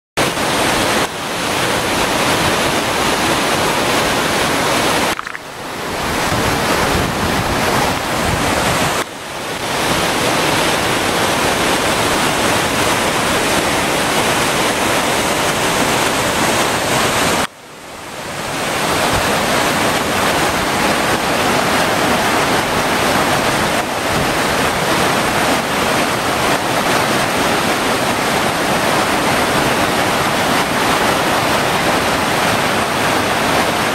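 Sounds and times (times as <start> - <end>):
waterfall rushing over rock: 0.2 - 33.9.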